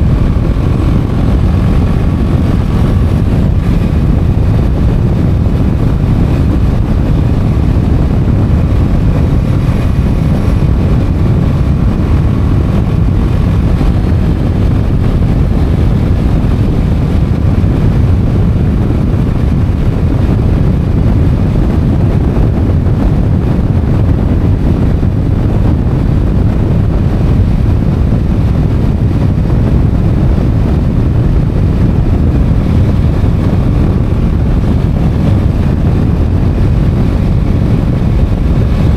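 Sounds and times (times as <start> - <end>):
motorcycle engine: 0.0 - 38.9
road noise: 0.0 - 38.9
wind rumble on microphone: 0.0 - 38.9.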